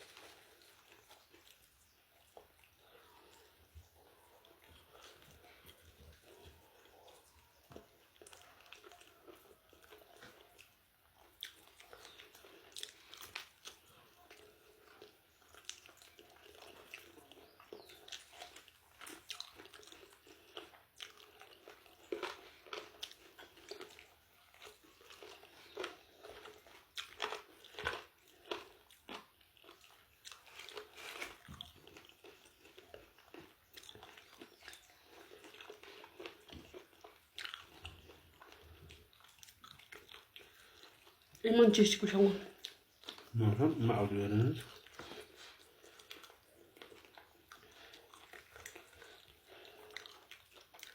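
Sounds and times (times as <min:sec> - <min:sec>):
crunchy chewing and biting: 0:00.0 - 0:41.4, 0:42.5 - 0:50.9.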